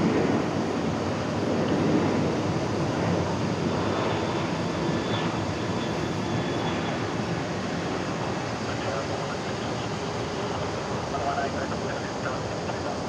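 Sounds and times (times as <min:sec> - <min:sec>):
jet airliner engines rushing: 0:00.0 - 0:13.0.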